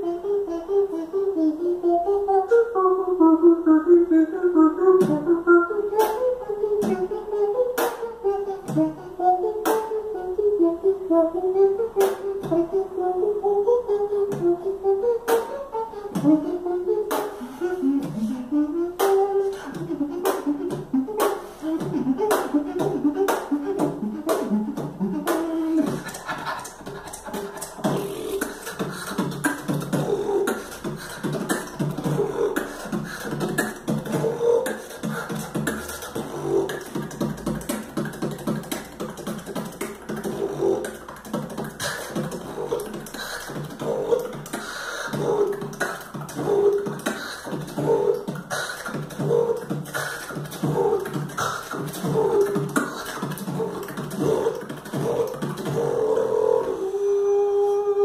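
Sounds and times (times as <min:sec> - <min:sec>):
vocal beatboxing: 0:00.0 - 0:58.0.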